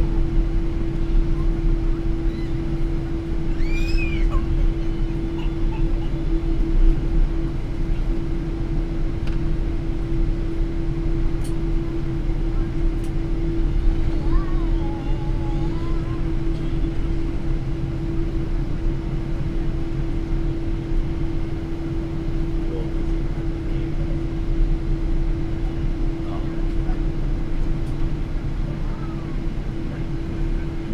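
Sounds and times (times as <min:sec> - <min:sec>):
airliner cabin rumble while taxiing: 0:00.0 - 0:30.9.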